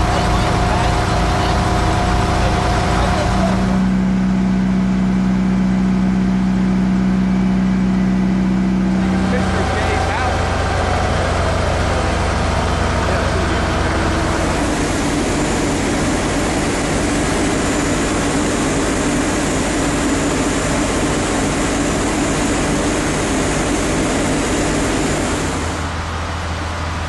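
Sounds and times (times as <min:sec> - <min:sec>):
large engine droning: 0:00.0 - 0:27.0.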